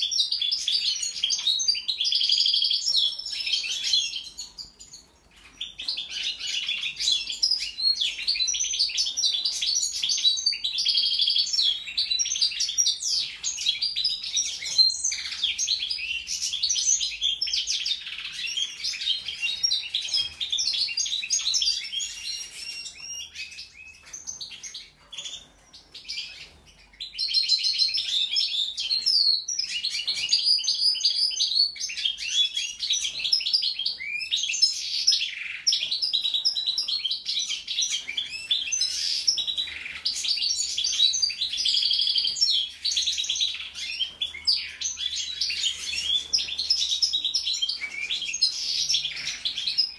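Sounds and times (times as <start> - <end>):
finch twittering song: 0.0 - 49.9.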